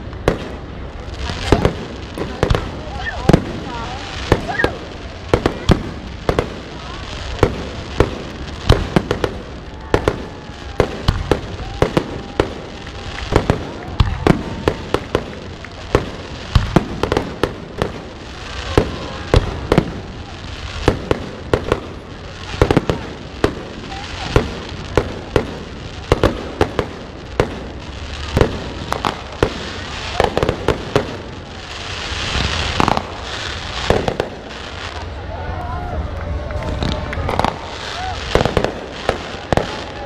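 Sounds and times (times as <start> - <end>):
fireworks hiss: 0.0 - 35.5, 36.6 - 40.0
fireworks bangs: 0.0 - 40.0.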